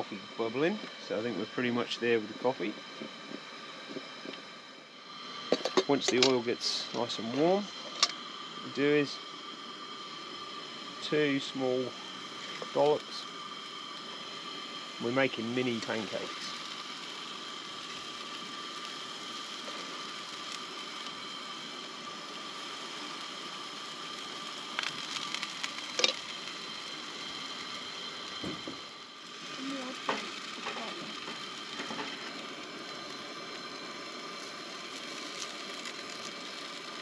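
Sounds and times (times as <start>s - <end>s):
pancakes sizzling in oil: 0.0s - 37.0s.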